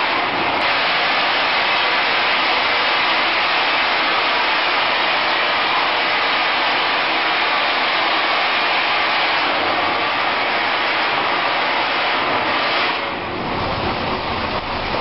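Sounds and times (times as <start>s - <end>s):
industrial vacuum running: 0.0s - 15.0s.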